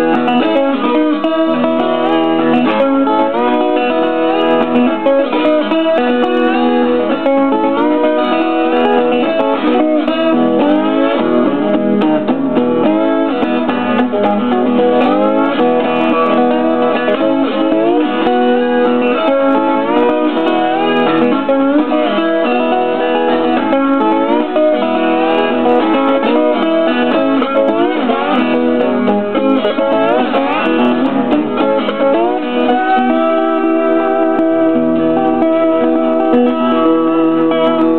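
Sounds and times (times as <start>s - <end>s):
slide acoustic guitar fingerpicking: 0.0s - 37.9s.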